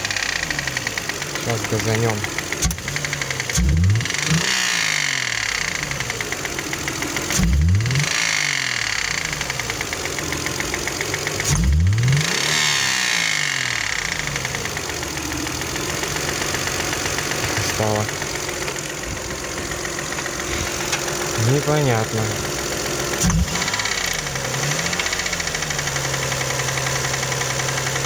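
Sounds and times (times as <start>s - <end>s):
car engine revving: 0.0s - 28.0s
rapid even engine knock: 0.0s - 28.0s.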